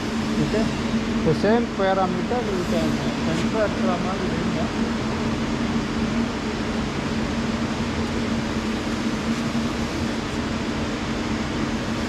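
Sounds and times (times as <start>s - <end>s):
fan noise: 0.0s - 12.0s
lab equipment machine hum: 0.0s - 12.0s.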